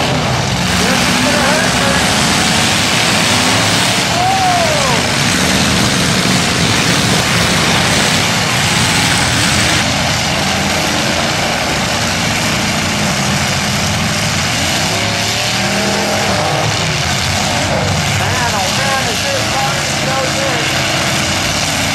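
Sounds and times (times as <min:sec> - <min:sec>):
car engines revving: 0:00.0 - 0:21.9.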